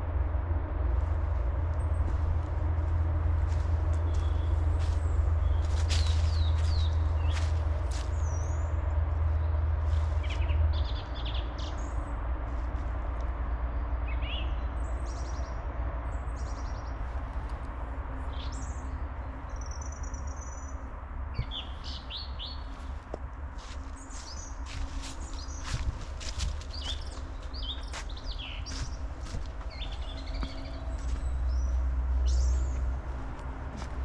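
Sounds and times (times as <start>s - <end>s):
steady low rumble: 0.0s - 34.0s
songbirds chirping: 0.9s - 34.0s.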